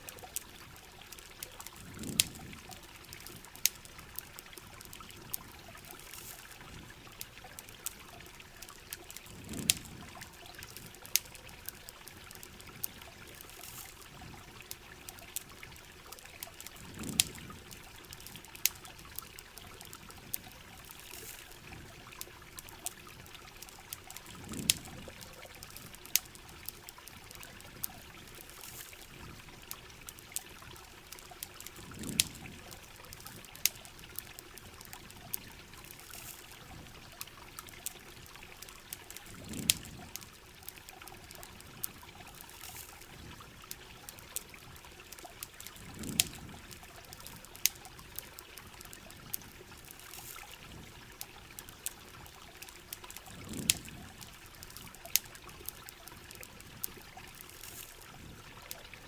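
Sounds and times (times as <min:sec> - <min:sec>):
sharp pops or crackles: 0:00.0 - 0:14.0, 0:16.7 - 0:21.9, 0:22.6 - 0:30.5, 0:31.2 - 0:43.4, 0:45.2 - 0:48.2, 0:53.0 - 0:58.1.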